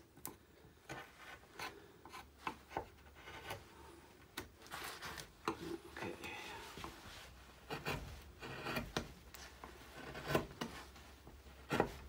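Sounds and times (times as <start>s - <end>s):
carving tool scraping wood: 0.9s - 3.9s, 4.7s - 12.0s.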